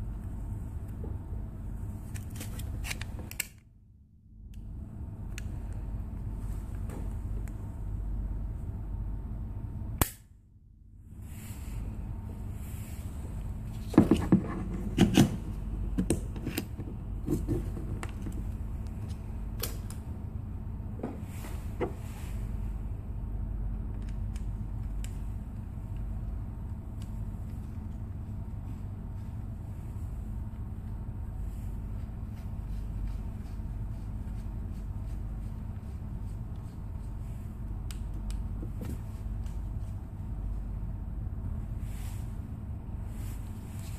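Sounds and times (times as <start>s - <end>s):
steady low rumble: 0.0s - 43.9s.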